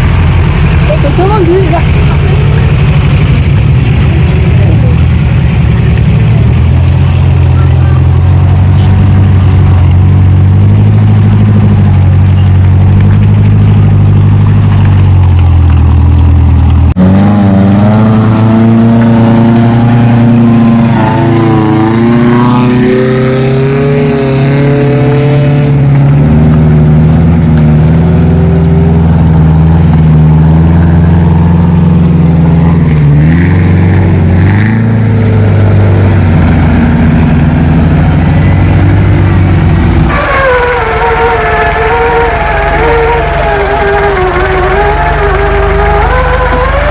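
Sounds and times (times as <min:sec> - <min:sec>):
vehicle engine revving: 0:00.0 - 0:46.9.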